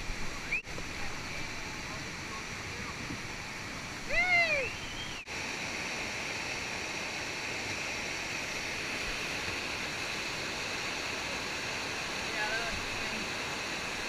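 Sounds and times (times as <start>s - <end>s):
whitewater rapids rushing: 0.0s - 14.0s.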